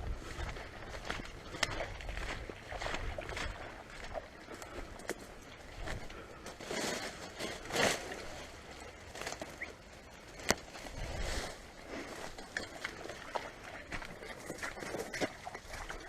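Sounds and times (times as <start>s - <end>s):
footsteps crunching through dry brush: 0.0s - 16.0s.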